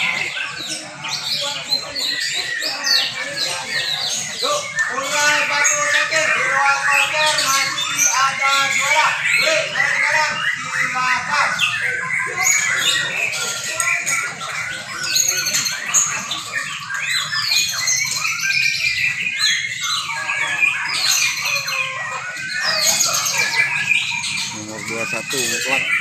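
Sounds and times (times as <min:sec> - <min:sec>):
birds singing in chorus: 0:00.0 - 0:26.0.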